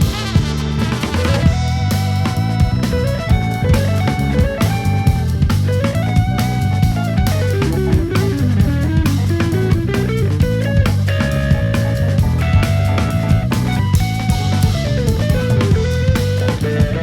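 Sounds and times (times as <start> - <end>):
drum kit: 0.0 - 17.0
electric bass: 0.0 - 17.0
jazz band playing live: 0.0 - 17.0.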